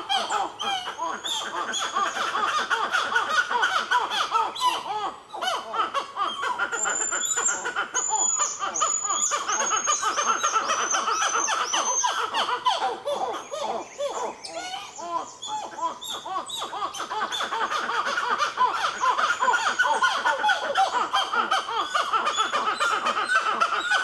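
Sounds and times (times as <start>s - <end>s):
monkeys calling loudly: 0.0s - 24.0s.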